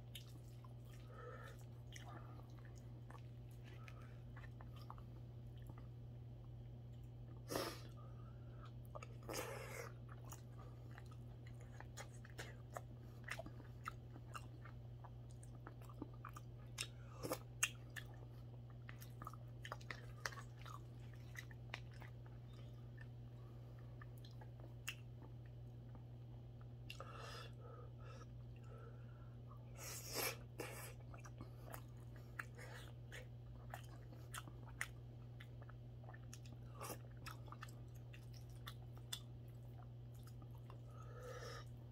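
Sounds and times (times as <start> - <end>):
person chewing: 0.0 - 27.2, 29.7 - 41.9
steady low hum: 0.0 - 41.9.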